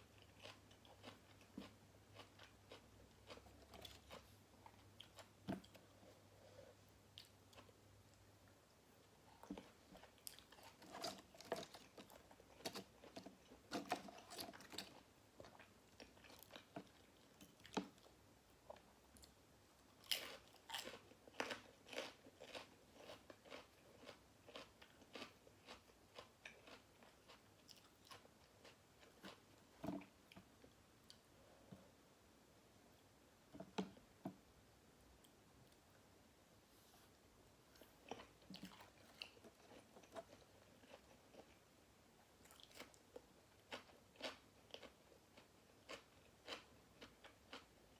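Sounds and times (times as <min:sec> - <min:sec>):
chewing with crisp crunching: 0:00.0 - 0:31.9, 0:37.7 - 0:47.9.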